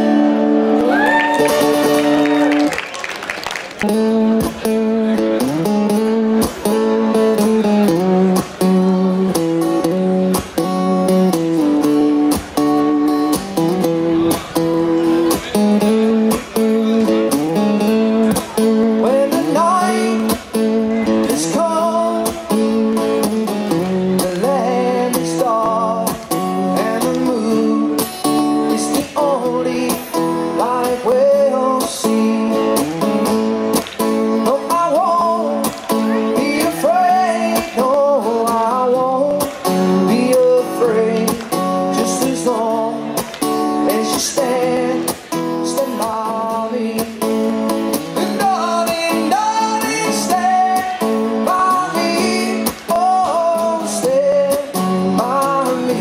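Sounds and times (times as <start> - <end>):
acoustic guitars strummed: 0.0 - 2.8, 3.7 - 56.0.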